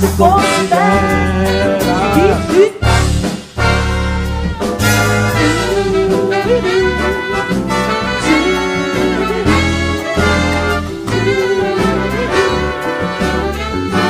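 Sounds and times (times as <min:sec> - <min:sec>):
bass and rhythm section: 0:00.0 - 0:14.0
horn section playing melody: 0:00.0 - 0:14.0.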